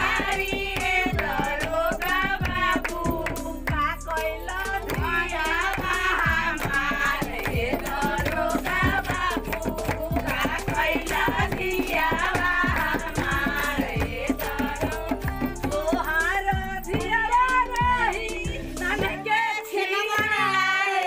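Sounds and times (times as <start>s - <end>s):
hand drum beating: 0.0s - 19.2s
person singing folk song: 0.0s - 21.0s.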